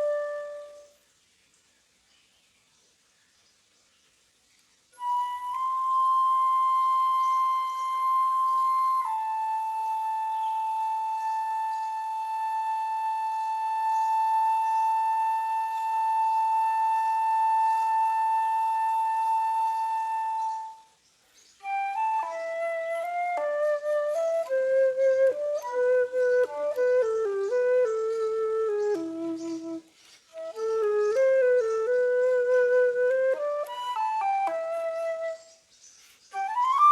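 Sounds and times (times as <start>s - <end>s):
flute playing slow melody: 0.0s - 1.1s, 5.0s - 21.0s, 21.6s - 36.9s.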